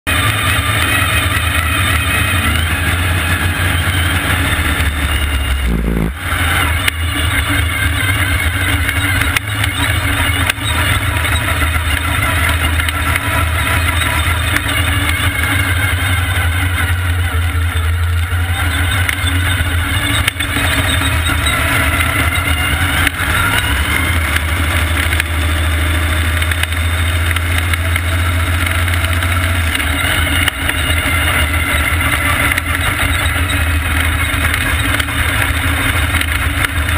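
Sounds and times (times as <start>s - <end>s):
race car engine roaring: 0.0s - 36.9s.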